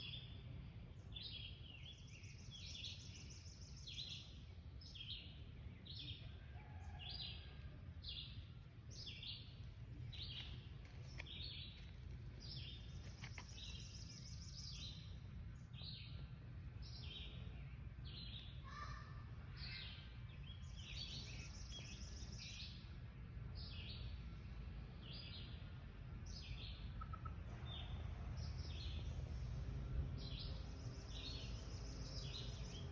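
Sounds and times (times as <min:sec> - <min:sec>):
low steady rumble: 0:00.0 - 0:32.9
songbirds chirping: 0:00.0 - 0:32.9.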